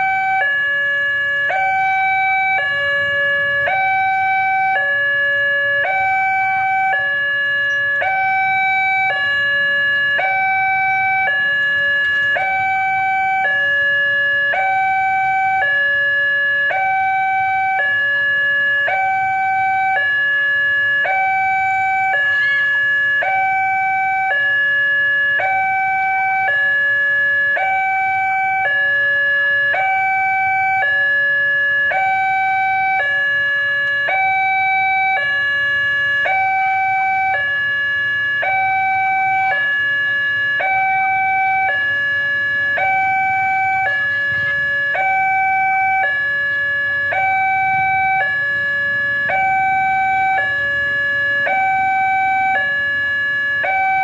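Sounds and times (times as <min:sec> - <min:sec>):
two-tone crossing alarm: 0:00.0 - 0:54.0.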